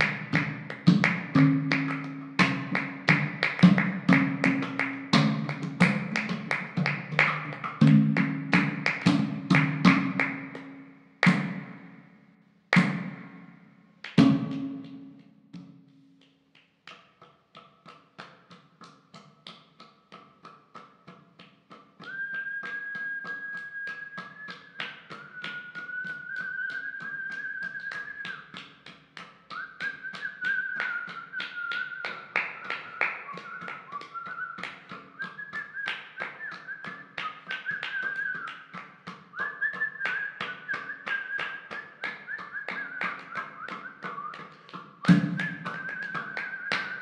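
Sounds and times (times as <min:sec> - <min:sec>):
quick tapping percussion: 0:00.0 - 0:12.1, 0:12.7 - 0:47.0.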